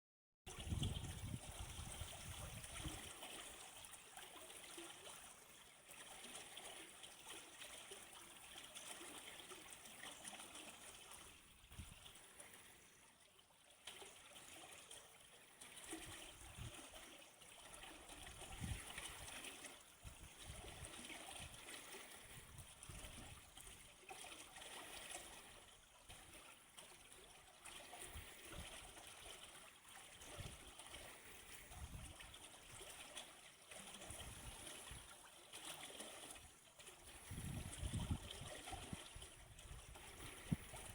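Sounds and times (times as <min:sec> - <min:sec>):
stream trickling and gurgling: 0:00.5 - 0:40.9.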